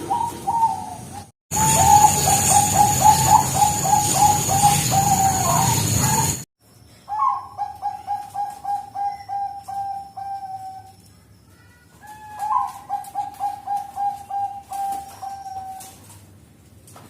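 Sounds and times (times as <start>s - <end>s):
dove cooing: 0.0s - 6.4s, 7.1s - 11.0s, 12.0s - 16.1s.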